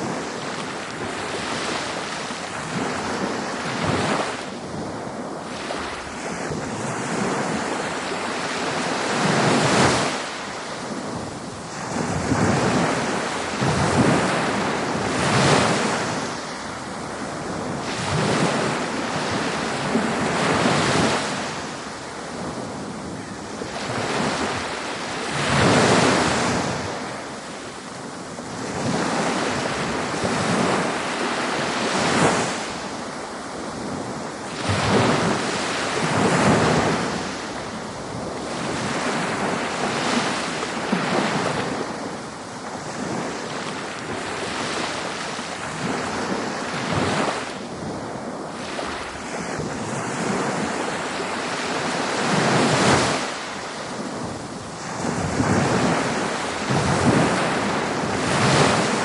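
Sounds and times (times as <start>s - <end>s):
ocean waves breaking: 0.0s - 59.0s
wind buffeting microphone: 0.0s - 59.0s.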